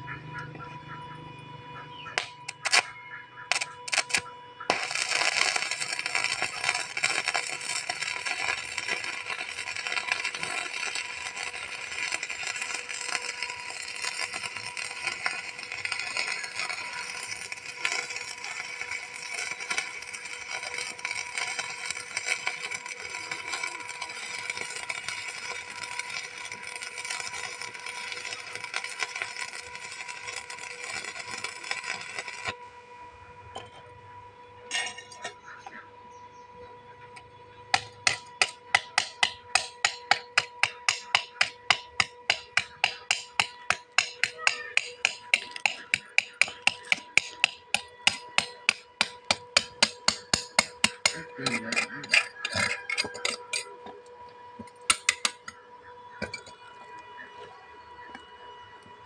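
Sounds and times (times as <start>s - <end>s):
welding arc crackling and sizzling: 2.1s - 32.6s, 37.0s - 59.0s.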